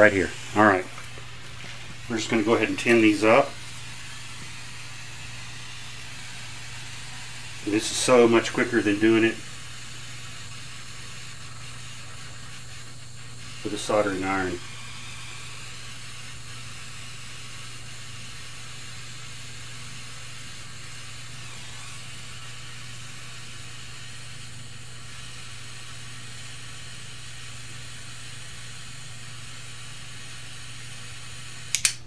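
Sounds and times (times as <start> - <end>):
micro torch hissing: 0.0 - 32.0.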